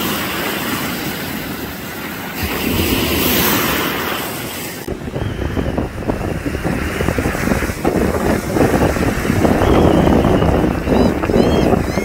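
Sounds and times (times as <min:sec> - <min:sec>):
surf washing on shore: 0:00.0 - 0:12.0
wind buffeting microphone: 0:02.4 - 0:12.0.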